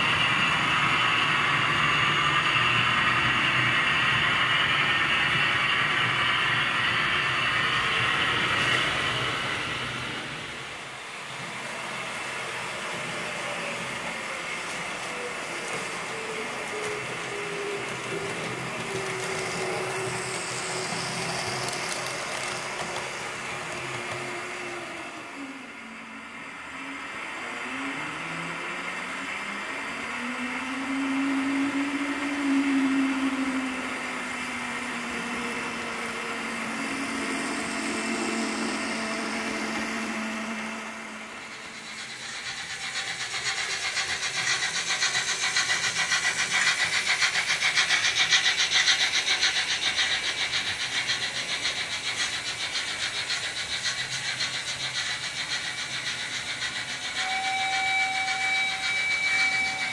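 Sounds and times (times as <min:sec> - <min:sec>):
rhythmic steam locomotive beat: 0:00.0 - 0:25.2, 0:31.1 - 0:59.9
wheels rolling on track: 0:00.0 - 0:25.5, 0:27.4 - 0:59.9
model train motors whining: 0:00.0 - 0:59.9.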